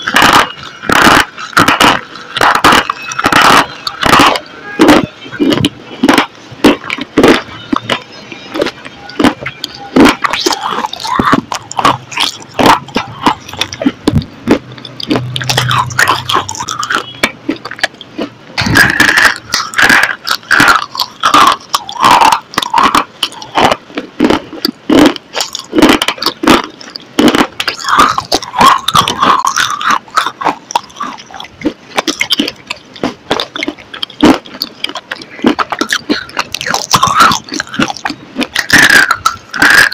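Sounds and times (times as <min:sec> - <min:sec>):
crunchy biting and chewing: 0:00.0 - 0:39.9.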